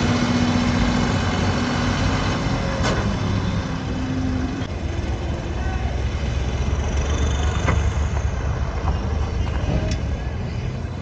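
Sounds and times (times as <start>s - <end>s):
tractor diesel engine rumbling: 0.0s - 11.0s.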